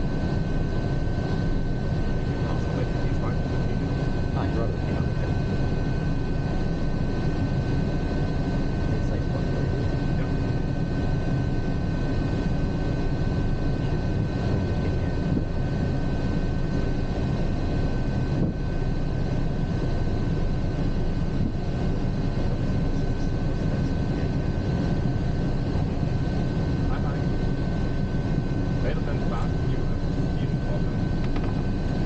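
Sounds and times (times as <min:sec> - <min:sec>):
aircraft low rumble: 0:00.0 - 0:32.0
turboprop high whine: 0:00.0 - 0:32.0.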